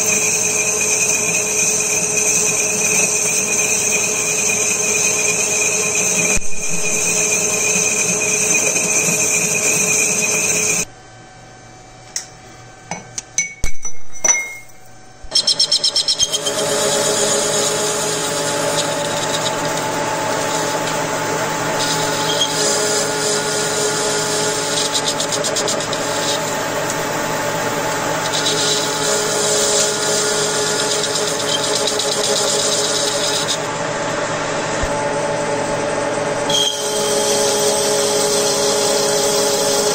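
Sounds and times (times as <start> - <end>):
power tool motor running: 0.0 - 10.9, 15.3 - 39.9.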